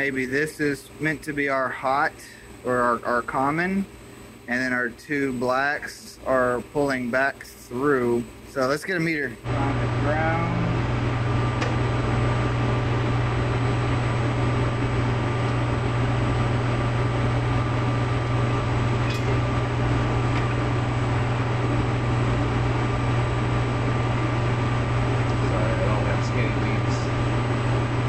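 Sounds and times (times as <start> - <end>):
constant high whine: 0.0 - 28.0
machinery hum: 0.0 - 28.0.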